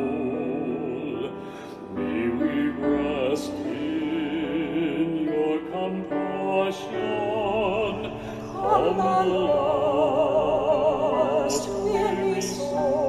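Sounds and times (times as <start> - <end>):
person singing a hymn: 0.0 - 13.0.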